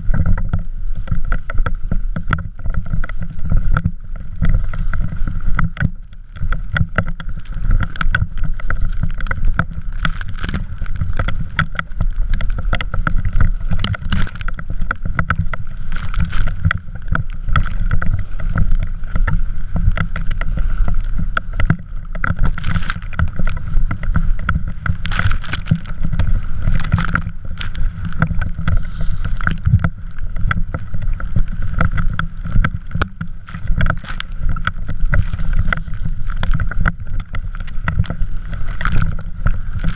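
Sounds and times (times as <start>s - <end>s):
drift trike on snow: 0.0s - 39.9s
wind rumble on microphone: 0.0s - 39.9s.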